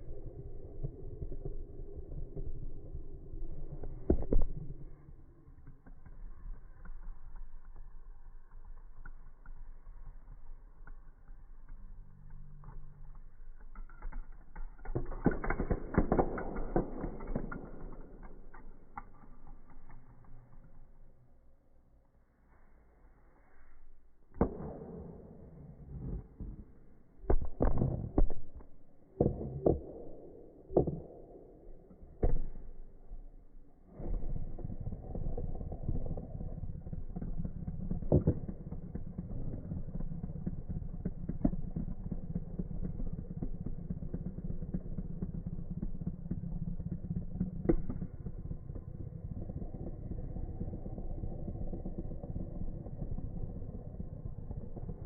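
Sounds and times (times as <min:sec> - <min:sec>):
fidget spinner whirring: 0:00.1 - 0:24.6, 0:34.2 - 0:55.0.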